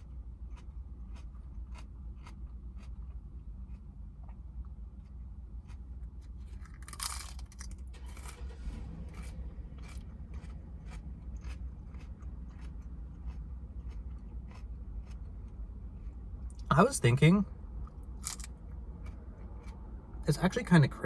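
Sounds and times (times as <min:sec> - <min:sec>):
person chewing lettuce: 0:00.0 - 0:17.1, 0:17.8 - 0:20.5
low steady hum: 0:00.0 - 0:21.0.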